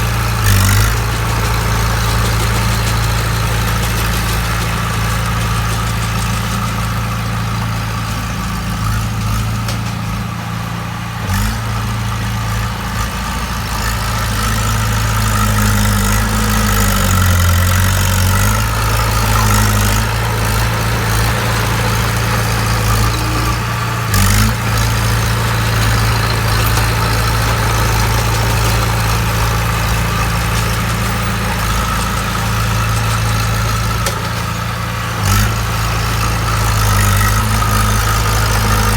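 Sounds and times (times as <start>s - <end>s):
bulldozer diesel engine idling: 0.0s - 38.9s.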